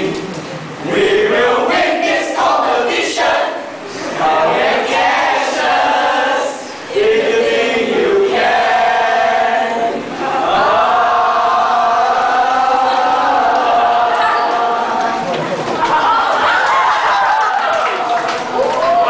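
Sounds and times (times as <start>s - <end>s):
group of voices chanting a cheer: 0.9s - 19.0s.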